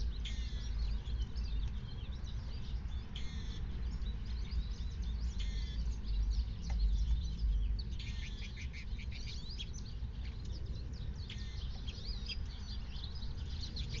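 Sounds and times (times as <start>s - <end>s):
low steady rumble: 0.0s - 14.0s
songbirds chirping: 0.0s - 14.0s.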